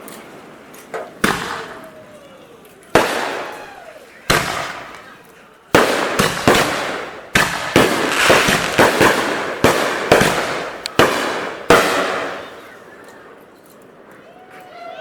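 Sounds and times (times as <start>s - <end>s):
fireworks banging and hissing: 0.0s - 14.8s.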